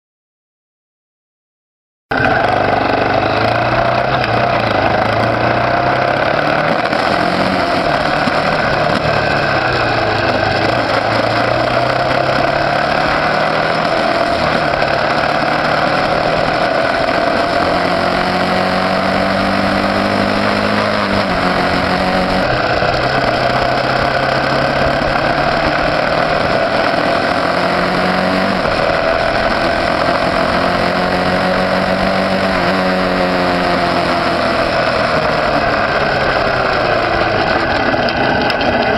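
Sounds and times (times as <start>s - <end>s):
motorcycle engine revving: 2.1s - 38.9s
wind and road noise: 2.1s - 38.9s.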